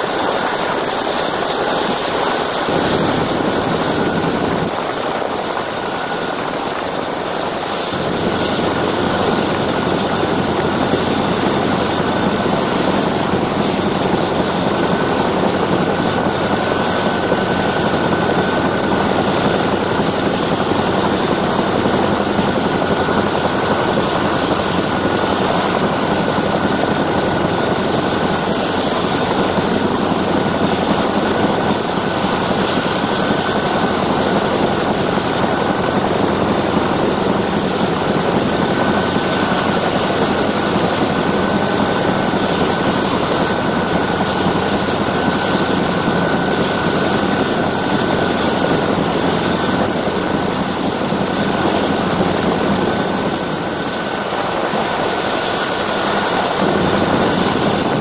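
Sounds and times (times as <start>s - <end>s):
helicopter rotor and turbine noise: 0.0s - 58.0s
high-pitched whine: 0.0s - 58.0s.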